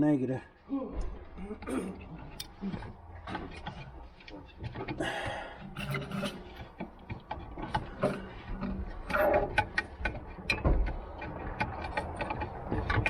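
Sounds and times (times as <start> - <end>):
clicks and rustling of hands wiring: 1.3 - 5.0, 5.6 - 13.0.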